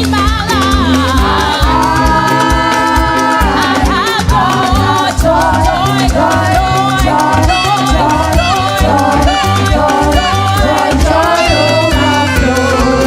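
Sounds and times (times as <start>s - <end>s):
drum and bass beat: 0.0s - 13.0s
percussion ticks: 0.0s - 13.0s
person singing: 0.0s - 13.0s.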